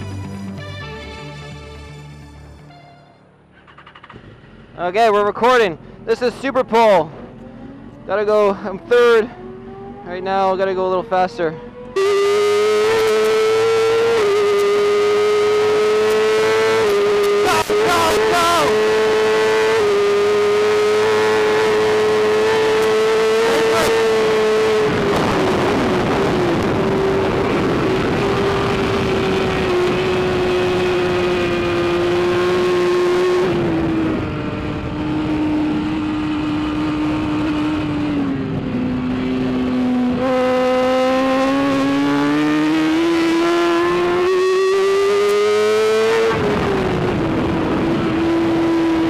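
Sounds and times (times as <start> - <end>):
motorcycle engine running hard: 7.1 - 49.0.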